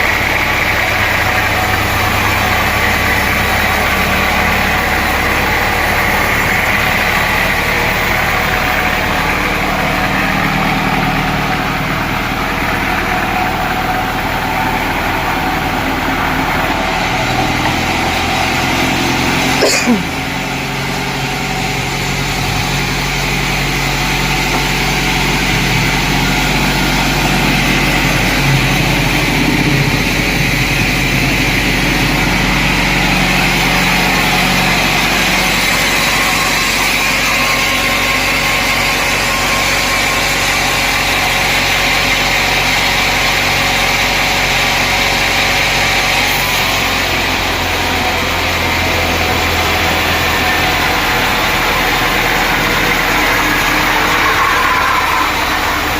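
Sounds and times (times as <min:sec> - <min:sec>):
high whine: 0:00.0 - 0:55.9
sawmill machinery drone: 0:00.0 - 0:55.9.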